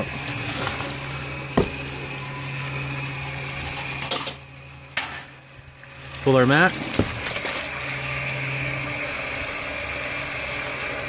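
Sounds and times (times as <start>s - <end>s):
water pouring into plastic tub: 0.0s - 3.8s, 5.3s - 11.0s
low motor hum: 0.0s - 11.0s.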